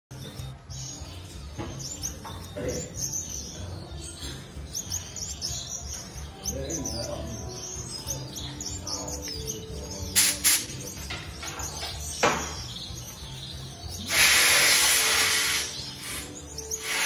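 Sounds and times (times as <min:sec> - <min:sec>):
high bird-like chirps: 0:00.1 - 0:17.0.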